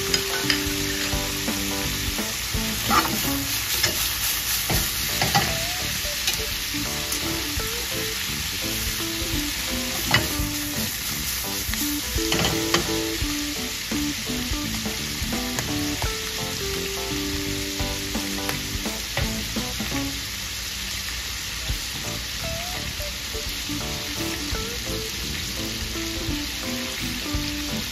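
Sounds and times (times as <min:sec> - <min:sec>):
prawns sizzling in a pan: 0:00.0 - 0:27.9.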